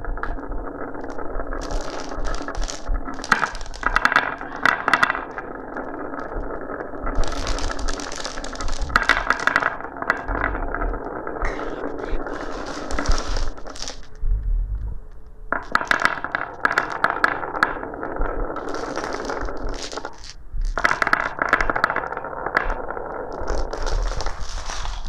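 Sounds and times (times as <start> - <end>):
glass marbles rolling: 0.0 - 14.2, 15.1 - 25.0
marbles clicking together: 0.0 - 25.0.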